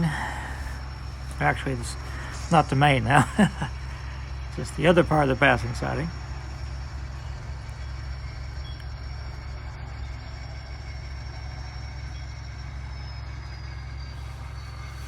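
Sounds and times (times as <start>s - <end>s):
faint high whine: 0.0s - 15.0s
model locomotive engine sound: 0.0s - 15.0s.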